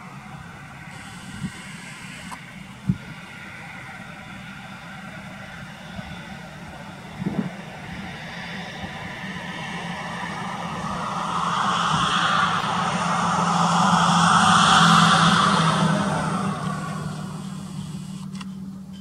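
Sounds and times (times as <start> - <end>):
traffic hum with tyre noise: 0.0 - 19.0.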